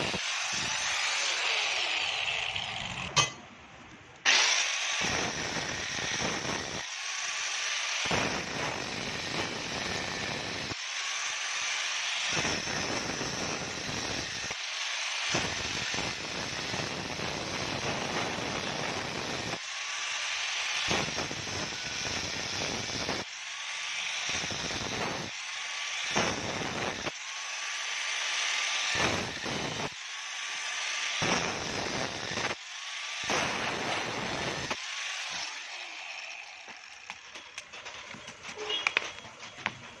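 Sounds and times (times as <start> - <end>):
angle grinder cutting metal: 0.0 - 3.4, 4.2 - 40.0
grinder motor whine: 0.0 - 3.4, 4.2 - 39.9.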